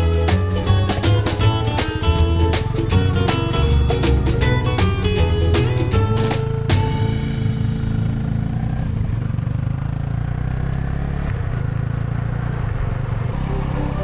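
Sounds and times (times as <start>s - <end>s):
motorcycle engine running: 0.6s - 14.0s.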